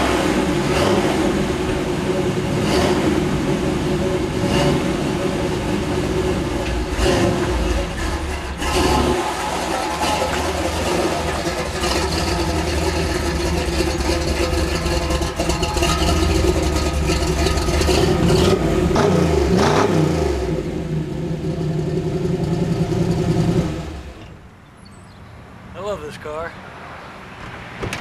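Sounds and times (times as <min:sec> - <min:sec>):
car engine idling and revving: 0:00.0 - 0:24.5.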